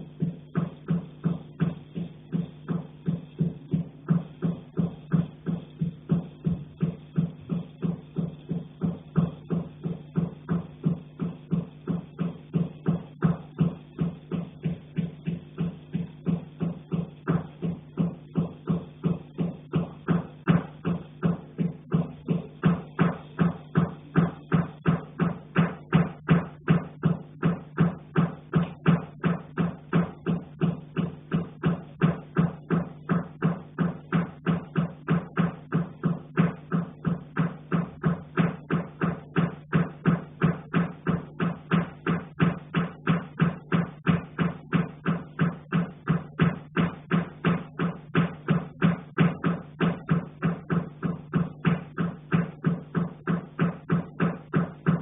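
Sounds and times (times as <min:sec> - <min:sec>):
knocking on a pipe: 0:00.0 - 0:55.0.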